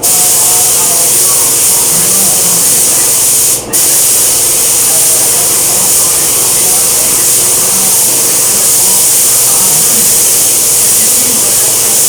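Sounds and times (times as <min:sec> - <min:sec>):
spray gun hissing: 0:00.0 - 0:12.0.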